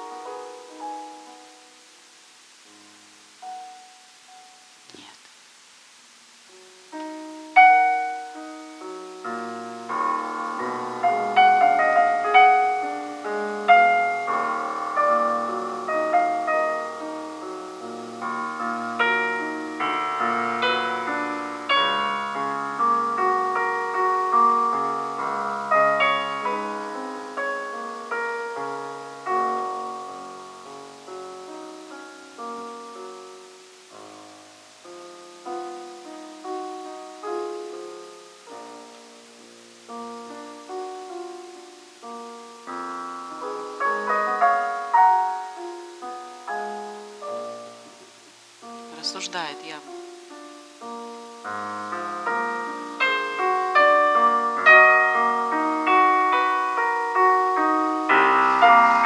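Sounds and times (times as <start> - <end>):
solo piano: 0.0 - 5.1, 6.4 - 59.0.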